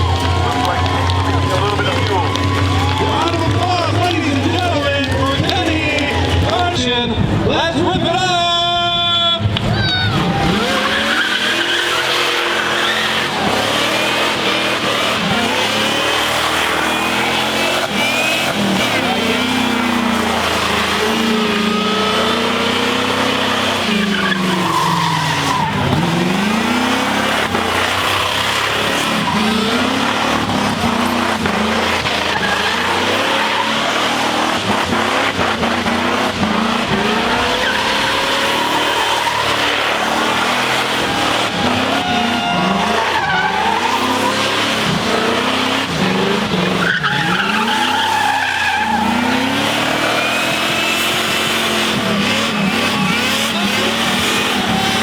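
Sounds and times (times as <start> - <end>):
car engine revving hard: 0.0 - 8.0, 9.4 - 55.0
tyres squealing in a burnout: 0.0 - 55.0.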